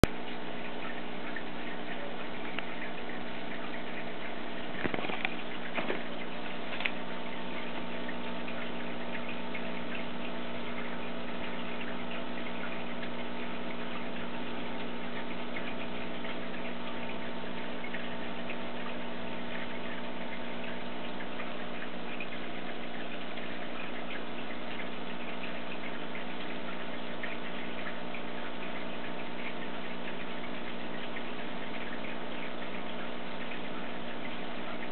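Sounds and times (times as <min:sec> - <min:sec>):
aquarium pump humming: 0:00.0 - 0:34.9
bubbles crackling in water: 0:00.0 - 0:34.9.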